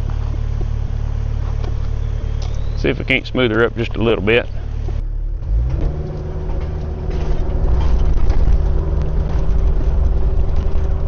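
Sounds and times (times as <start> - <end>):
excavator diesel engine working: 0.0 - 11.0.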